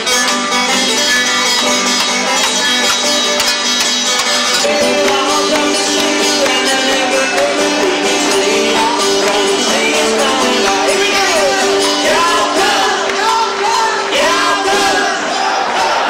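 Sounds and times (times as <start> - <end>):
folk country music: 0.0 - 16.0
guitar: 0.0 - 16.0.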